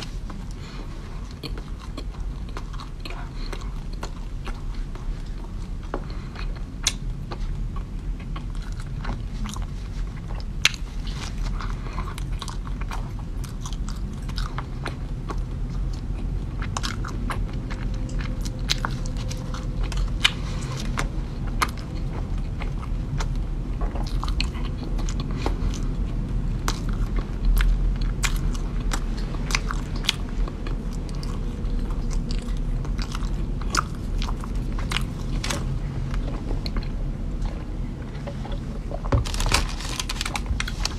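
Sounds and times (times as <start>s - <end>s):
low hum: 0.0s - 40.9s
person chewing crunchy cookie: 0.0s - 40.9s.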